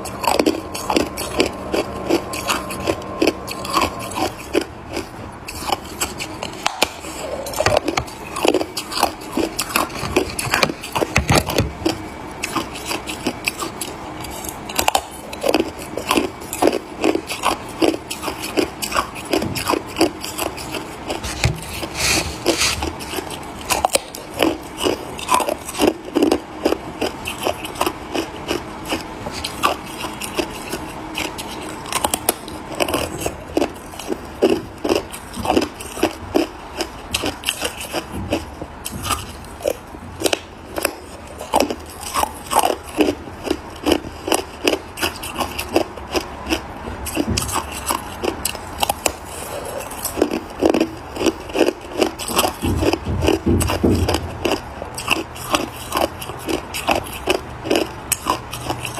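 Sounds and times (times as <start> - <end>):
ice crunching being chewed: 0.0 - 58.9.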